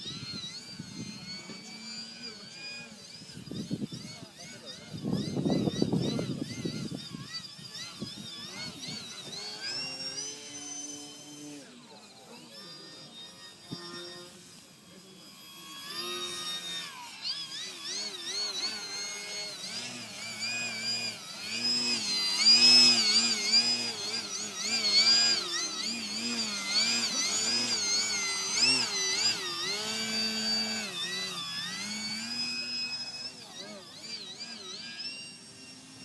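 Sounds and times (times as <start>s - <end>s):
model plane motor whining: 0.0s - 36.0s.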